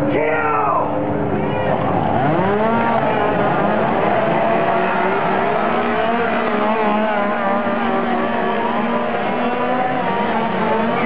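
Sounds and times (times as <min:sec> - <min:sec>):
chainsaws revving: 0:01.8 - 0:11.0.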